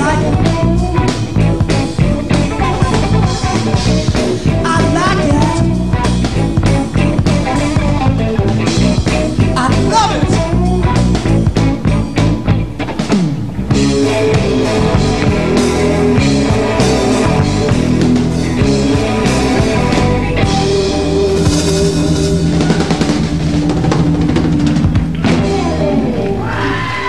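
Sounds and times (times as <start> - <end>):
drum kit: 0.0 - 27.0
live rock band playing: 0.0 - 27.0.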